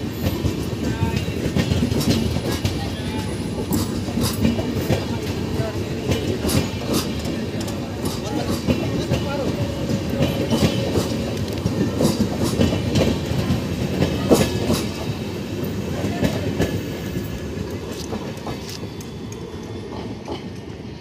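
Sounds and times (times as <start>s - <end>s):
train wheels clattering over rails: 0.0s - 21.0s.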